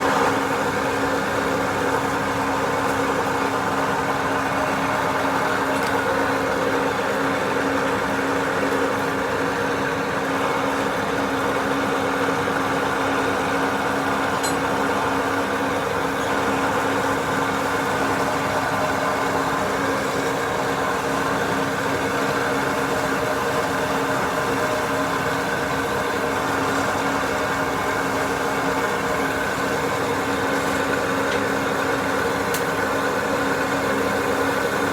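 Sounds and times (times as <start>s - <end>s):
machine humming steadily: 0.0s - 34.9s.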